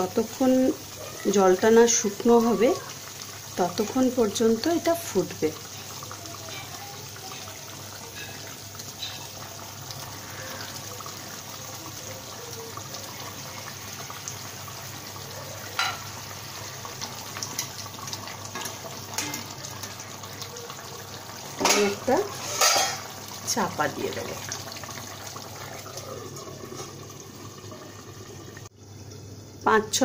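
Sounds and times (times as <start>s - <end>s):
curry boiling and bubbling: 0.0s - 30.0s.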